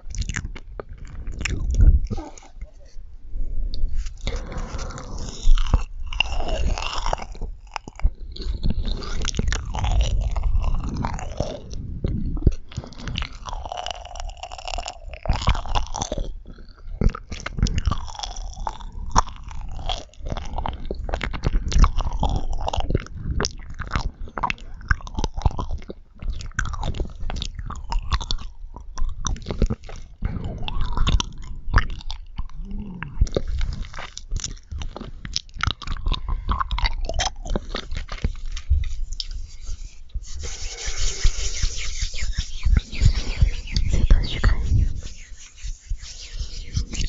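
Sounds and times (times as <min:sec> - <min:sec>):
chewing marshmallows: 0:00.0 - 0:02.7, 0:03.7 - 0:47.0.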